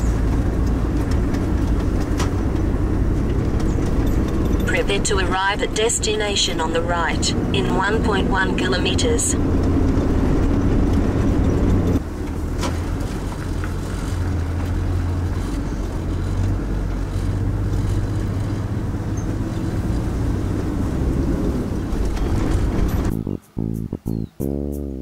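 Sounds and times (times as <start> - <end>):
car engine and tyre drone: 0.0 - 25.0.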